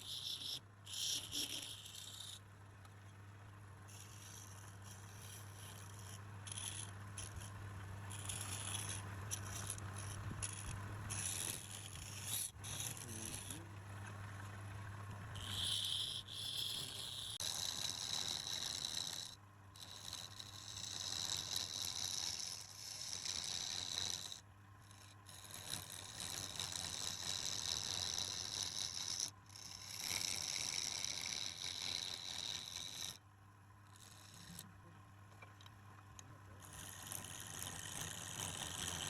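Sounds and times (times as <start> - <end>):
lathe tool scraping wood: 0.0 - 2.4, 3.9 - 13.7, 15.4 - 33.2, 33.9 - 34.7, 36.6 - 39.0.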